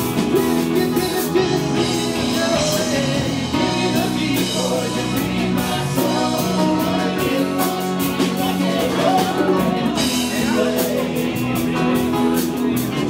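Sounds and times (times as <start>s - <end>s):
live rock band playing: 0.0s - 13.0s
man singing: 0.0s - 13.0s.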